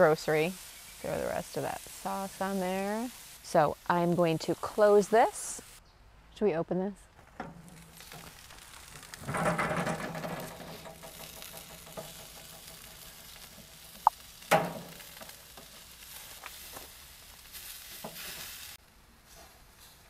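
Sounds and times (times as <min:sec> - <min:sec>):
kebabs sizzling on grill: 0:00.0 - 0:05.8, 0:07.2 - 0:20.0.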